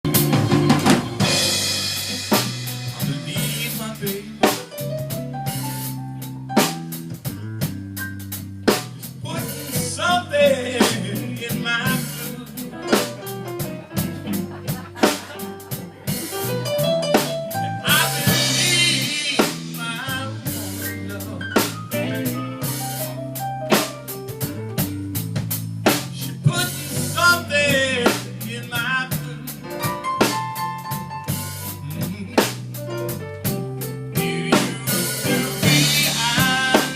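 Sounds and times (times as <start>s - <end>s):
bass line: 0.0s - 36.9s
drum kit beat: 0.0s - 36.9s.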